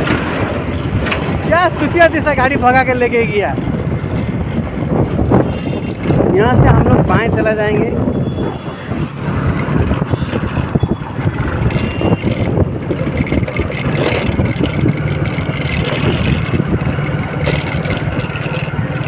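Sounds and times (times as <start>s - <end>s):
motorcycle engine running: 0.0s - 19.0s
wind on microphone: 2.7s - 19.0s.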